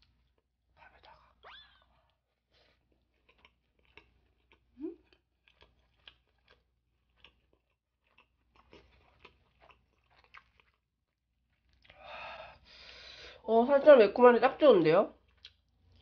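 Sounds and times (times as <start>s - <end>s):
chewing food close-up: 0.0s - 12.0s, 15.1s - 16.0s.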